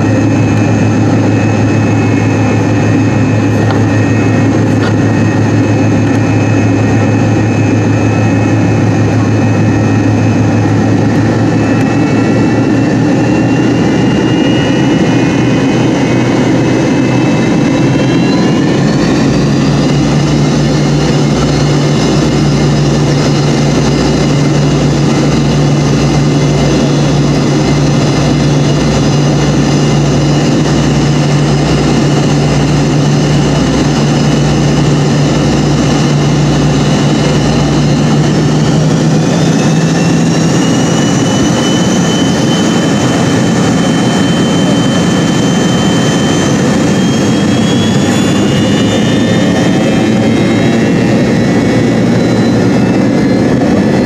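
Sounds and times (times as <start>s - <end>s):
high engine whine rising: 0.0s - 54.0s
jet engine drone: 0.0s - 54.0s.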